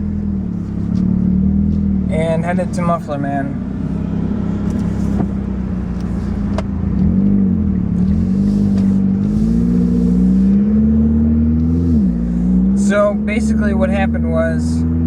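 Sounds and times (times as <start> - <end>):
car engine with leaking exhaust: 0.0 - 15.0.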